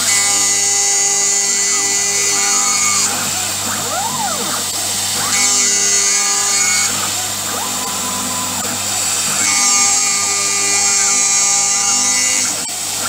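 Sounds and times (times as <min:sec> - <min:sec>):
milling machine whine: 0:00.0 - 0:13.0.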